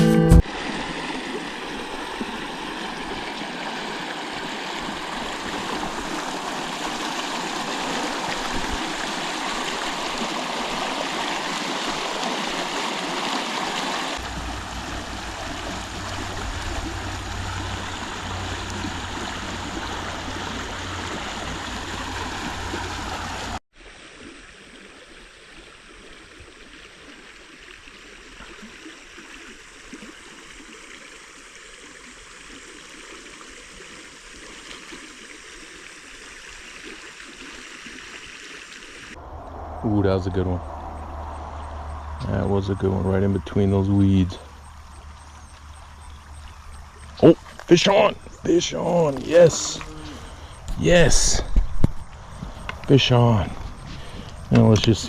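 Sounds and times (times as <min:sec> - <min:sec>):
creek water running: 0:00.0 - 0:55.0.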